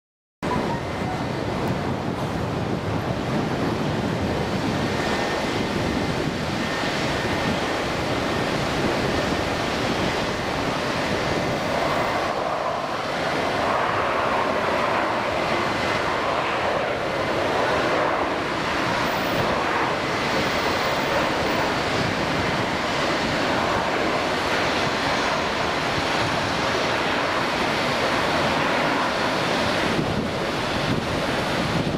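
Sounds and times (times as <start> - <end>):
distant jet engines roaring: 0.4 - 31.9
wind on microphone: 0.4 - 31.9.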